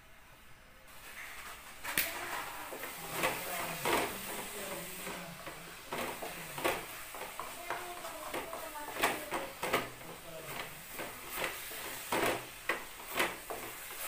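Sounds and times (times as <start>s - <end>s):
wooden spatula scraping a pan: 1.0s - 14.0s.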